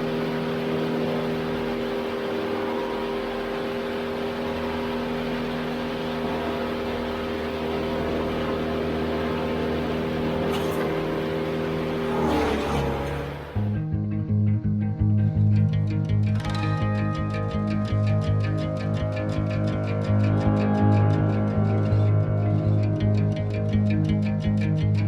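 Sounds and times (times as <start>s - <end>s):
machinery engine humming: 0.0s - 13.9s, 17.6s - 25.0s.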